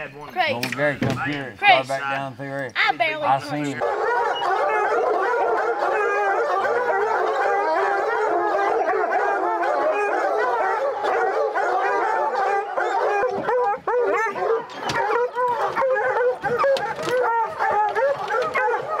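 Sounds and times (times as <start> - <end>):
hounds baying and howling: 3.5 - 19.0.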